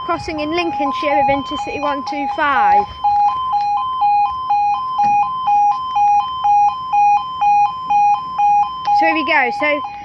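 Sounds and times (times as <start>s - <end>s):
two-tone level crossing alarm: 0.0s - 10.0s.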